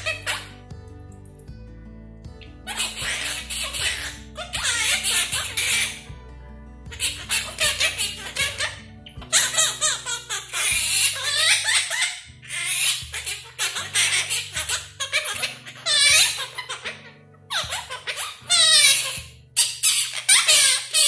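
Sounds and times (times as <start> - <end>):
parrot chattering: 0.0 - 0.7, 2.4 - 6.2, 6.9 - 21.0
background music: 0.0 - 21.0.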